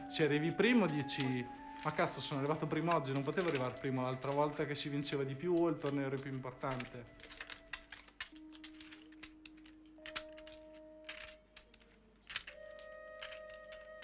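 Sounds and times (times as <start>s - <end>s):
background music of held notes: 0.0s - 14.0s
poker chips clicking: 0.5s - 14.0s.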